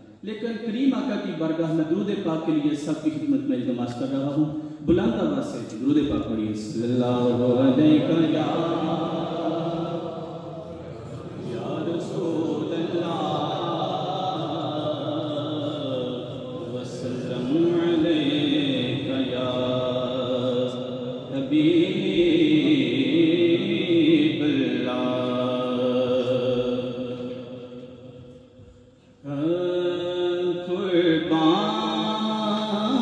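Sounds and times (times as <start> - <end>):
man chanting into microphone: 0.0 - 33.0.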